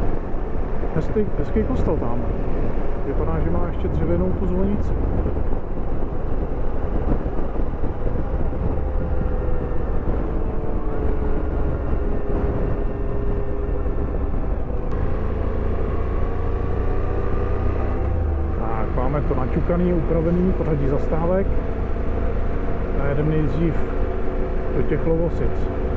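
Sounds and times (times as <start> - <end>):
wind noise on microphone: 0.0 - 25.9.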